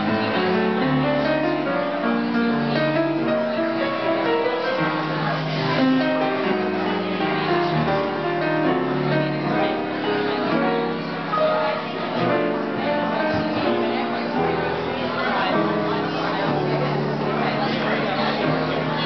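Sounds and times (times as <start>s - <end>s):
solo piano playing: 0.0s - 19.0s.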